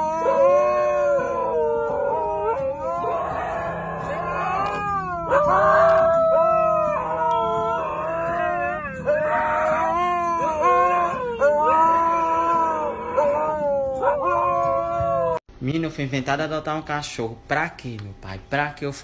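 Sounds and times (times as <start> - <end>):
husky howling: 0.0 - 15.4.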